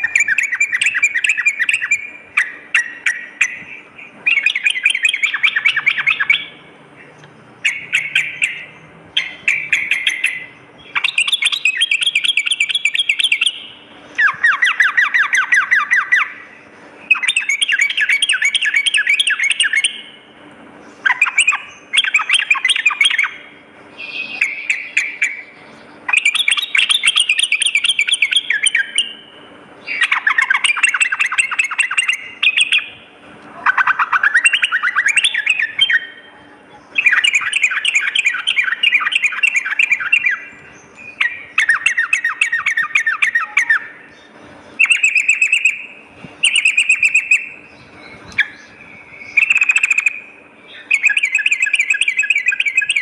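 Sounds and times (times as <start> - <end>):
bird singing chattering notes: 0.0 - 53.0.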